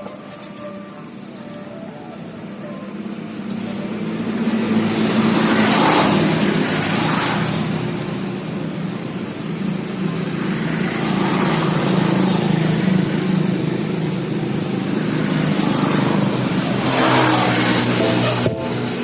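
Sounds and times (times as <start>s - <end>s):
motor engine running: 2.2s - 19.0s.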